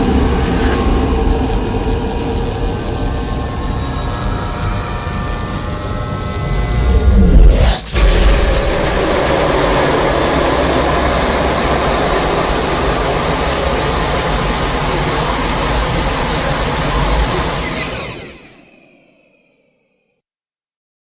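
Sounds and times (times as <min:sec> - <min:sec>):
deep steady rumbling: 0:00.0 - 0:17.4.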